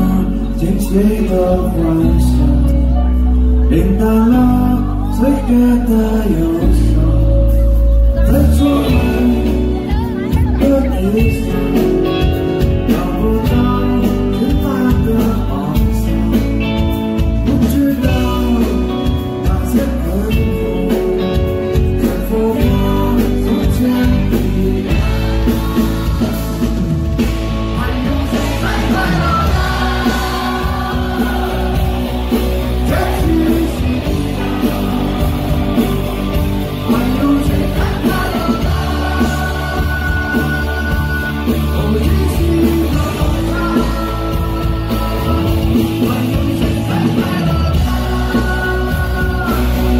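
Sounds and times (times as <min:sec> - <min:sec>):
drums: 0:00.0 - 0:49.9
electric bass: 0:00.0 - 0:49.9
man singing: 0:00.0 - 0:49.9.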